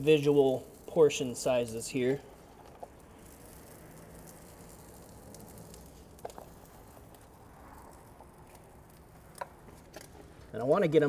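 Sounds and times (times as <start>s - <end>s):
meat sizzling on a griddle: 0.0s - 10.4s
soft ticks of piling meat: 0.0s - 10.6s.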